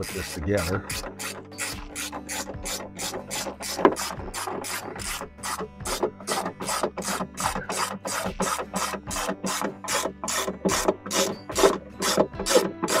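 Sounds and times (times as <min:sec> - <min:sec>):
ratchet wrench clicking: 0:00.0 - 0:13.0.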